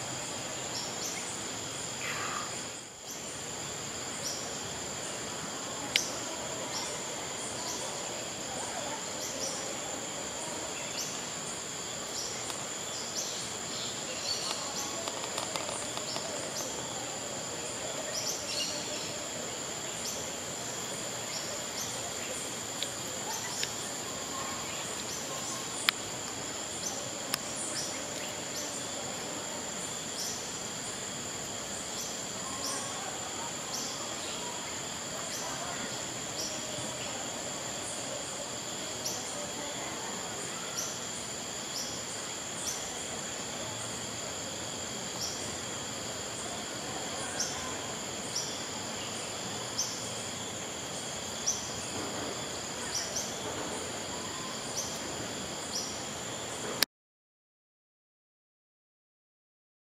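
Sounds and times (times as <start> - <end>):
high-pitched insect drone: 0.0 - 56.6
short insect chirps: 0.0 - 56.8.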